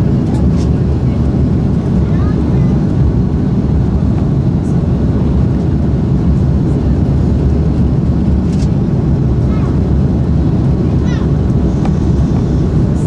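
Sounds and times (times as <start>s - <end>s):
jet engines and airflow rushing: 0.0s - 13.0s.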